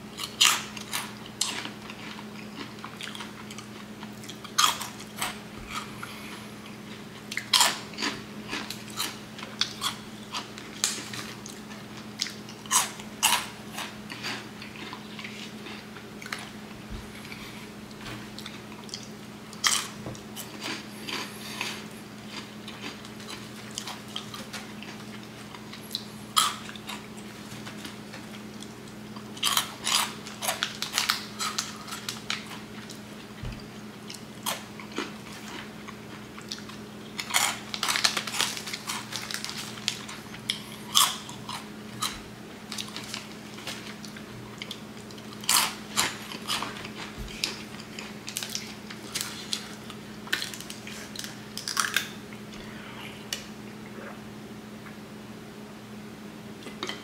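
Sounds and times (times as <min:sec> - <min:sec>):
steady low hum: 0:00.0 - 0:57.0
crunchy snack chewing: 0:00.2 - 0:52.7.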